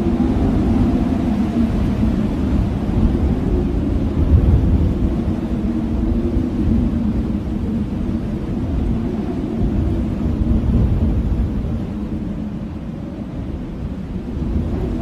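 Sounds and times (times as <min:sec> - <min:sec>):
blizzard wind howling: 0:00.0 - 0:15.0.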